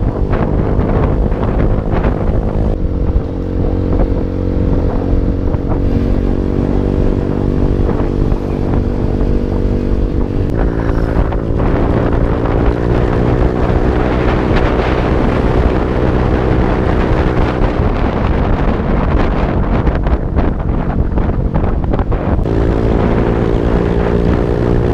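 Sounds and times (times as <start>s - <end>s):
motorcycle engine running: 0.0s - 24.9s
wind noise on microphone: 0.0s - 24.9s.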